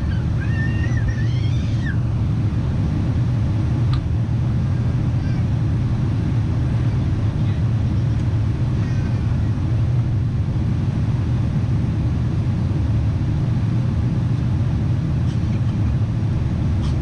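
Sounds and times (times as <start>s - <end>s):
jet engines rumbling: 0.0s - 17.0s
rushing air: 0.0s - 17.0s.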